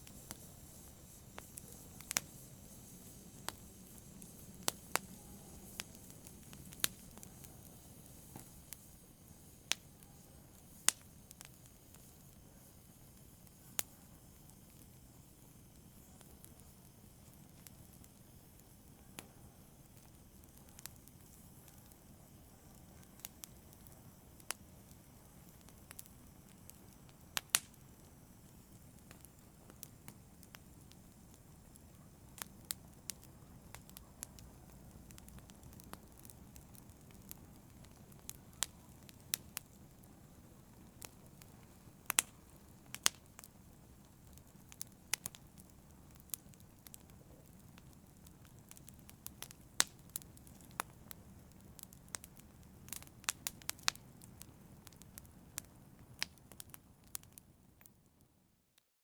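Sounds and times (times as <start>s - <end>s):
fire crackling and popping: 0.0s - 58.8s
faint low hiss: 0.0s - 58.9s.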